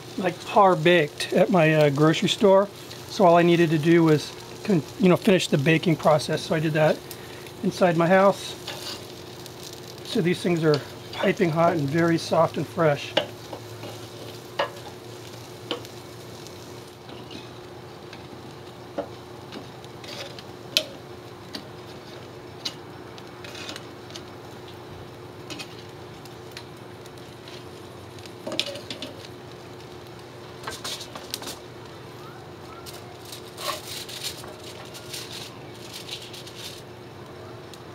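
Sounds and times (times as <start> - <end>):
bread rolls sizzling on a grill: 0.0 - 37.9.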